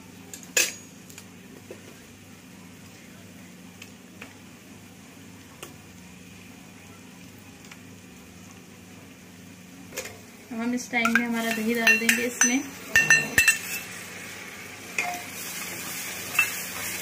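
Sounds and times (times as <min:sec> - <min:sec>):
low steady hum: 0:00.0 - 0:16.9
faint frying sizzle: 0:00.0 - 0:17.0.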